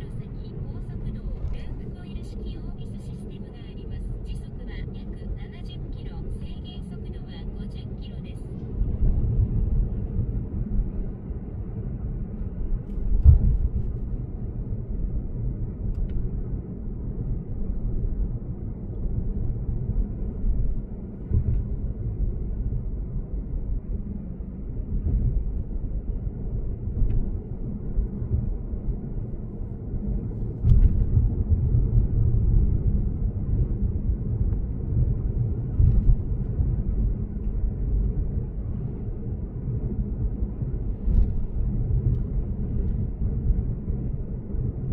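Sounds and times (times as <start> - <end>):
road and tyre rumble: 0.0 - 44.9.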